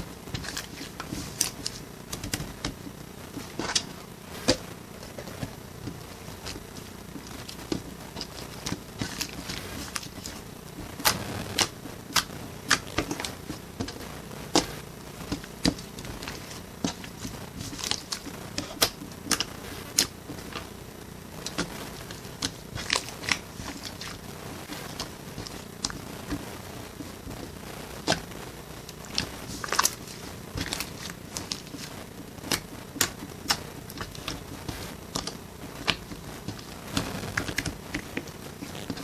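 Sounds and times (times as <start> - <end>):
low steady background noise: 0.0 - 39.0.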